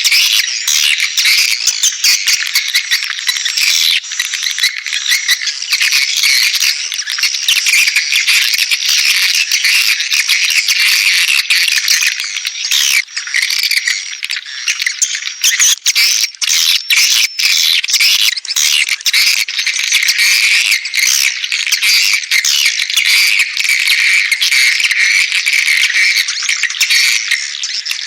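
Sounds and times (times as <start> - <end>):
swiftlets twittering and chirping: 0.0 - 28.0.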